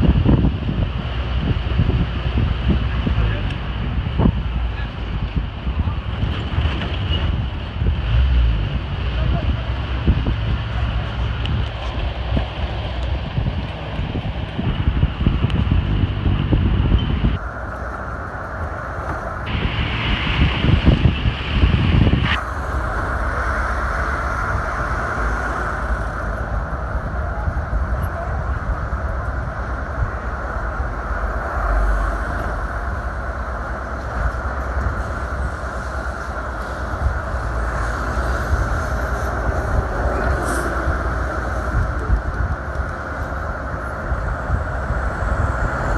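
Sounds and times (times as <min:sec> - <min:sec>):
car engine rumble: 0:00.0 - 0:45.9
road and wind rumble: 0:00.0 - 0:45.9.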